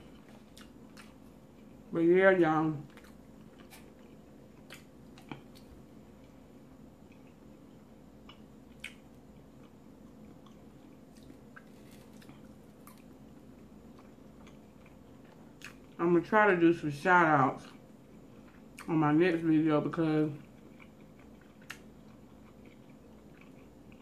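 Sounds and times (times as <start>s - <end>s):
person chewing food: 0.0s - 1.9s, 2.8s - 16.0s, 17.6s - 18.9s, 20.4s - 24.0s
faint room hum: 0.0s - 24.0s.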